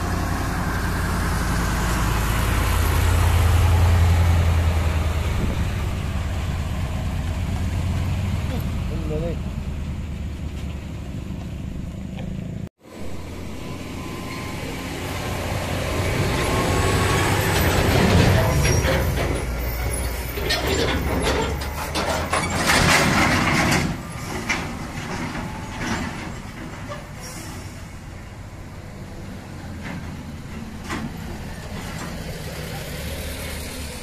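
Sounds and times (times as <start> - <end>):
diesel truck engine labouring: 0.0 - 34.0.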